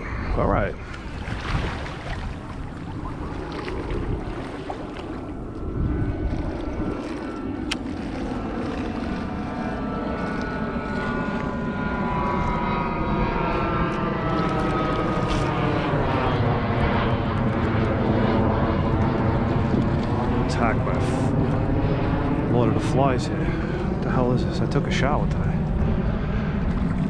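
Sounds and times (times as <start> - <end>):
passing engine droning hum: 0.0 - 27.0.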